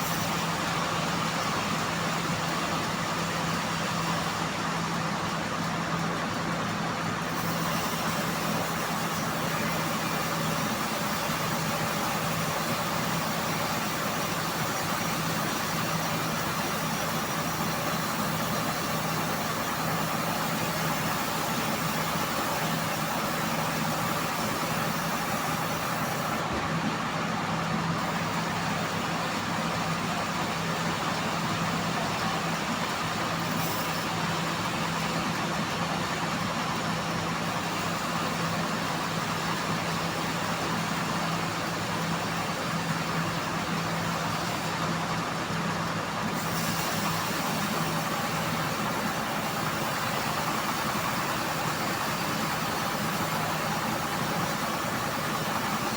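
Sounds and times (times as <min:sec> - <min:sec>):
band saw mill running: 0:00.0 - 0:55.9.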